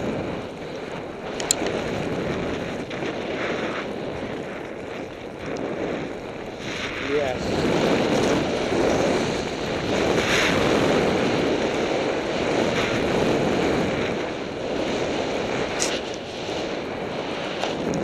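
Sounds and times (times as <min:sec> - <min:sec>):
snowboard sliding through powder: 0:00.0 - 0:18.0
wind buffeting microphone: 0:00.0 - 0:18.0.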